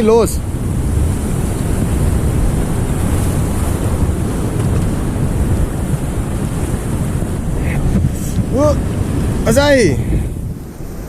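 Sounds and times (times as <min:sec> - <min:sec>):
surf washing in: 0:00.0 - 0:11.0
wind buffeting microphone: 0:00.0 - 0:11.0.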